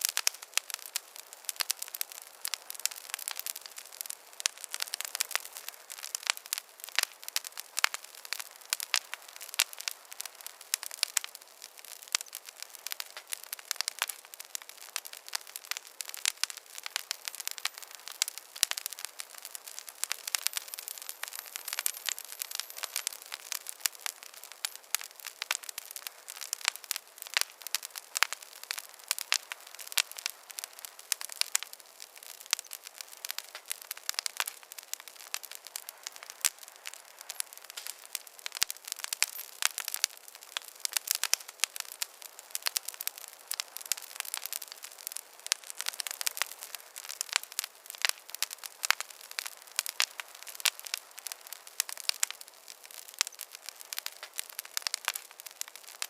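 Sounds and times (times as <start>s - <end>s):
faint hiss: 0.0s - 56.0s
wood fire crackling: 0.0s - 56.0s.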